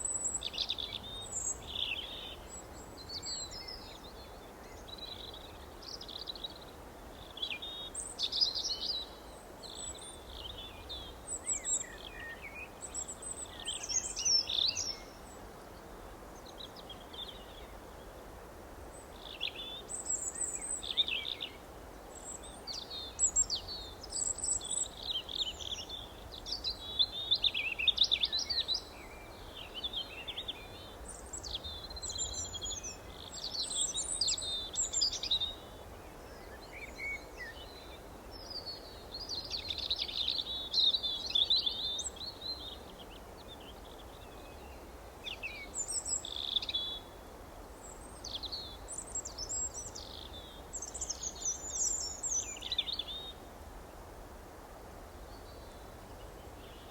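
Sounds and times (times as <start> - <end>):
faint background noise: 0.0 - 56.9
songbirds chirping: 0.0 - 56.9.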